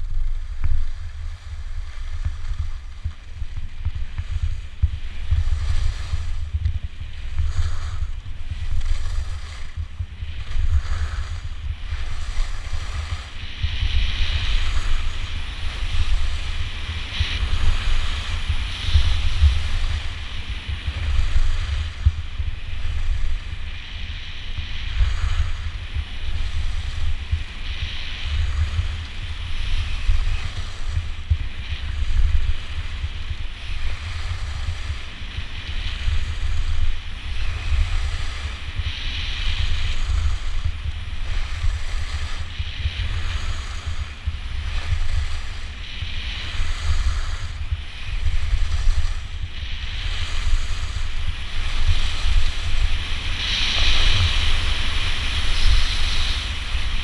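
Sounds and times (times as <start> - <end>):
skis hissing on snow: 0.0 - 57.0
wind buffeting microphone: 0.0 - 57.0.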